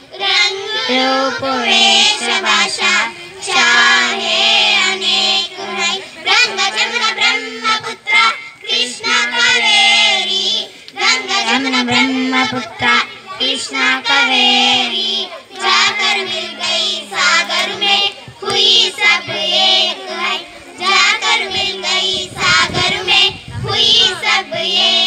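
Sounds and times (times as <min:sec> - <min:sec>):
girls singing in unison: 0:00.0 - 0:25.0.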